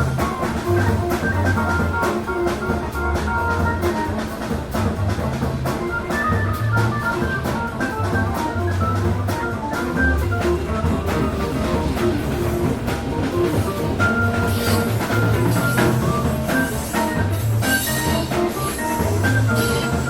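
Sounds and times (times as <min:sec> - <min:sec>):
jazz-funk instrumental music: 0:00.0 - 0:20.0.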